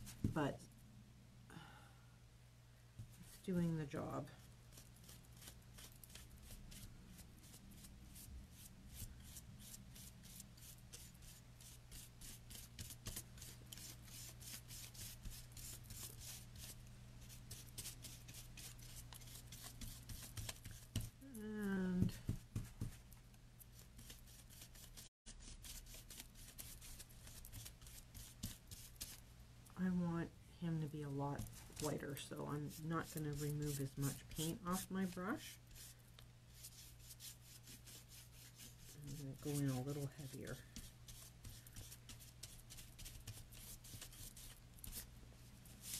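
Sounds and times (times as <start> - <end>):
paintbrush scratching strokes: 3.0 - 3.5, 4.4 - 21.2, 23.7 - 29.2, 31.4 - 45.9.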